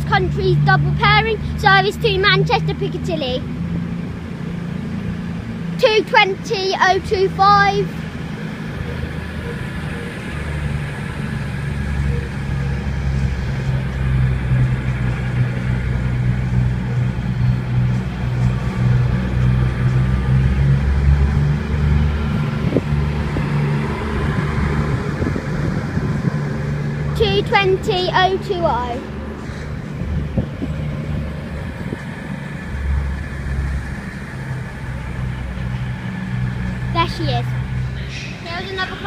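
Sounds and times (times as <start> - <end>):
diesel train engines droning: 0.0 - 39.0.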